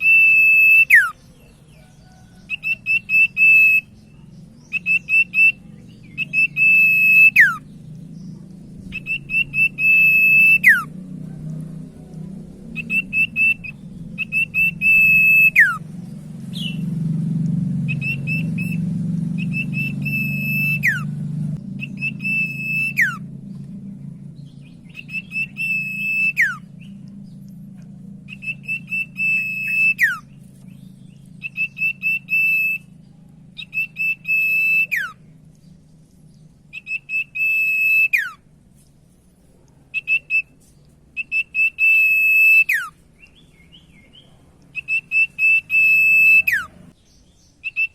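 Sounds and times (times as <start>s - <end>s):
bird singing whistled phrases: 0.0s - 11.0s, 12.8s - 15.9s, 16.5s - 16.9s, 17.9s - 21.2s, 21.8s - 23.3s, 24.4s - 27.4s, 28.3s - 35.8s, 36.7s - 38.5s, 39.9s - 47.9s
steady low hum: 0.0s - 47.9s.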